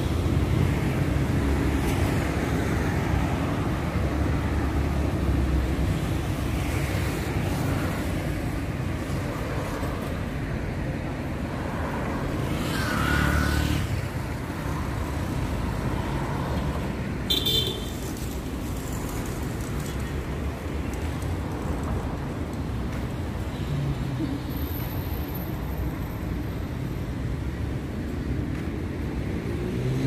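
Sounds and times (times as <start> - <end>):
cars rumbling by: 0.0 - 30.0.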